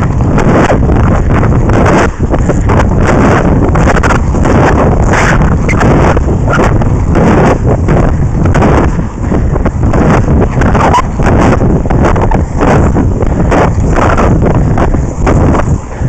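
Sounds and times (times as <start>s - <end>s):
skate wheels rolling on asphalt: 0.0s - 16.0s
wind buffeting microphone: 0.0s - 16.0s.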